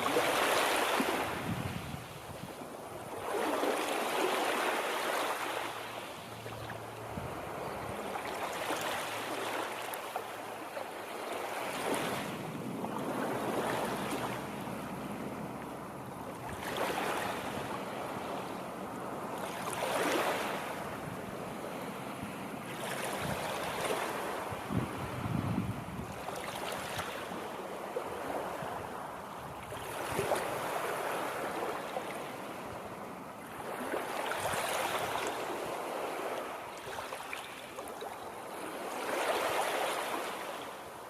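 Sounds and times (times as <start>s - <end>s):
water washing in waves: 0.0s - 41.0s.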